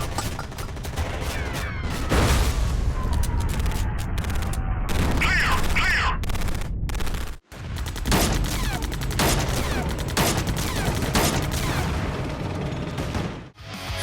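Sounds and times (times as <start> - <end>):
rapid machine-gun fire: 0.0 - 13.6.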